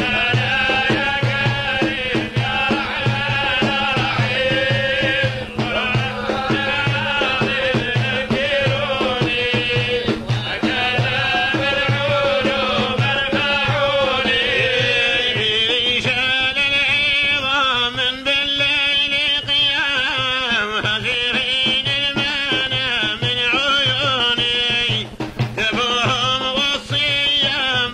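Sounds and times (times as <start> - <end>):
frame drum beat: 0.0 - 17.9, 19.4 - 27.9
man singing: 0.0 - 27.9.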